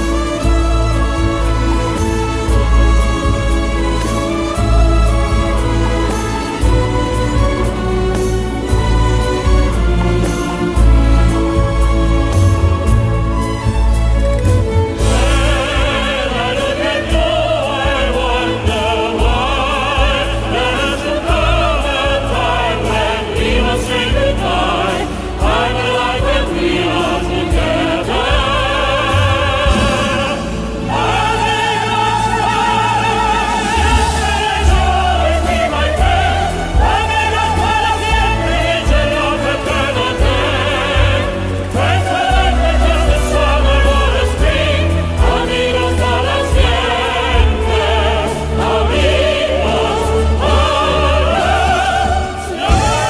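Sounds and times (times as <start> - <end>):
choir singing: 0.0 - 53.0
operatic singing: 0.0 - 53.0.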